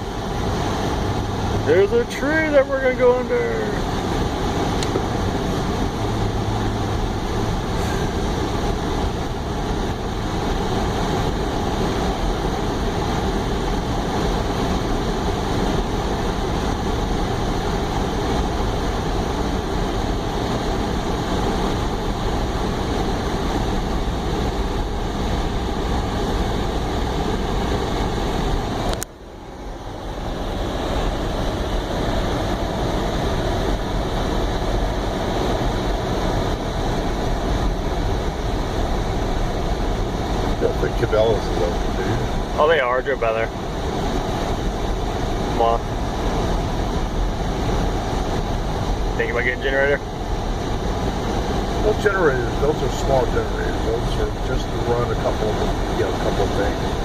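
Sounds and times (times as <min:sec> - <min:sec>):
car cabin road noise: 0:00.0 - 0:57.0
tyres hissing on road: 0:00.0 - 0:57.0.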